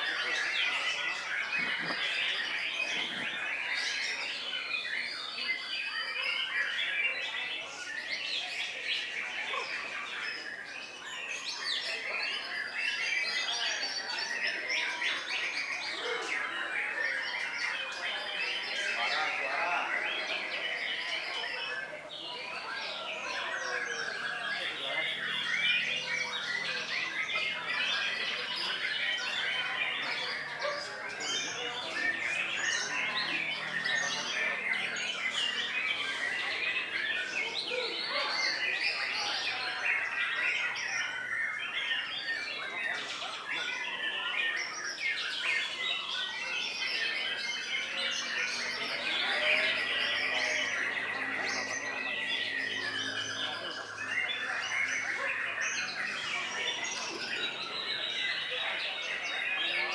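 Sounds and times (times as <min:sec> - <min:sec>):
chorus of songbirds singing: 0:00.0 - 0:59.9.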